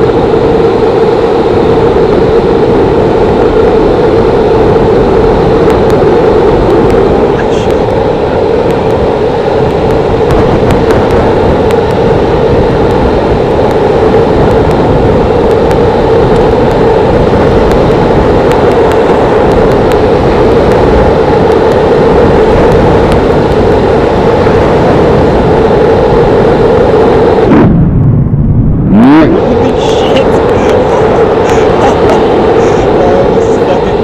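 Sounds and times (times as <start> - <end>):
skateboard wheels rolling on asphalt: 0.0 - 27.5
wind rushing over microphone: 0.0 - 34.0.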